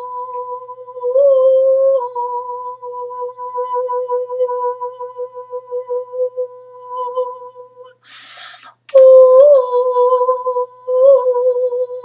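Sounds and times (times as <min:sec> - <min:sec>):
woman humming a long note: 0:00.0 - 0:08.1, 0:08.9 - 0:12.0.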